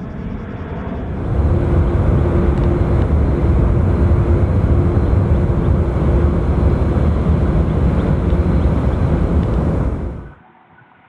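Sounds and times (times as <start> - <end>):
jet engines rumbling overhead: 0.6 - 10.4.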